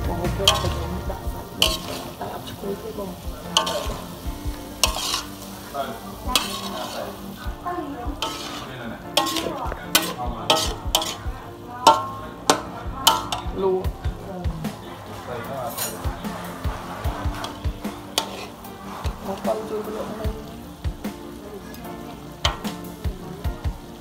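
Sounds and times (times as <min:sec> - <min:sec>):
food sizzling: 0:00.0 - 0:24.0
metal spatula scraping wok: 0:00.0 - 0:24.0.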